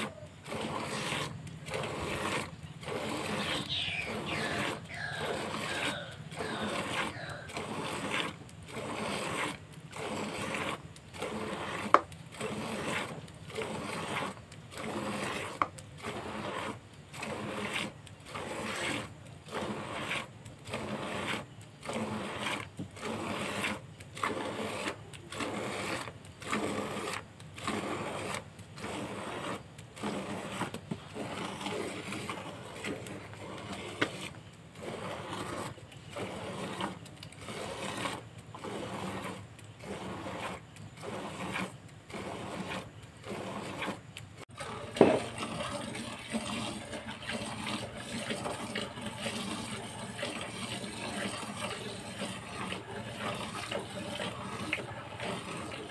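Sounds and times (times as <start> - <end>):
milk squirting into bucket: 0.0 - 55.9.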